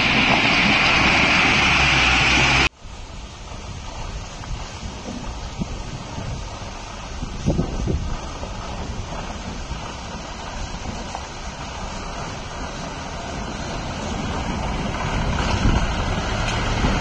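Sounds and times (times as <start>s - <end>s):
diesel lorry engine rumble: 0.0s - 17.0s
wind buffeting microphone: 2.8s - 17.0s.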